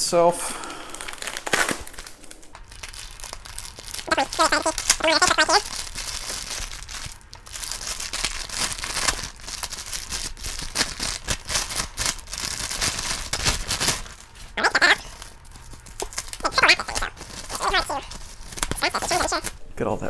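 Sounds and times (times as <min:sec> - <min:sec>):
plastic wrapping crinkling: 0:00.6 - 0:19.6.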